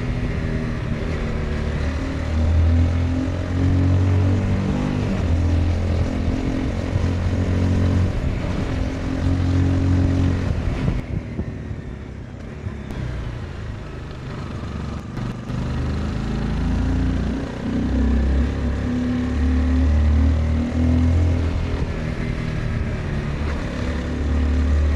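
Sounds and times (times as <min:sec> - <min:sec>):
motorcycle engine revving: 0:00.0 - 0:11.0, 0:12.7 - 0:24.9.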